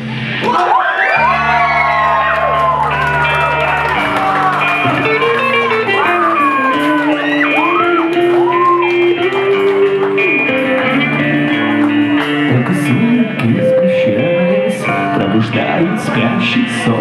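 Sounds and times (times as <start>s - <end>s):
lead guitar with bent notes: 0.0s - 17.0s
rock band chords: 0.0s - 17.0s.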